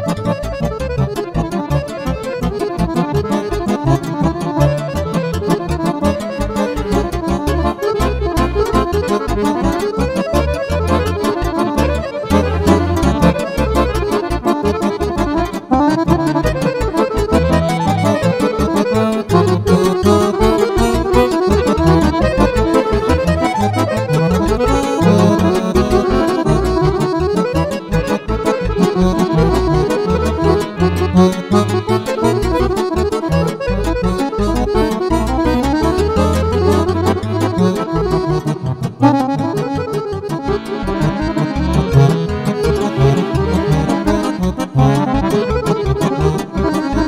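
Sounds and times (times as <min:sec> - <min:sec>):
accordion playing fast folk music: 0:00.0 - 0:47.0.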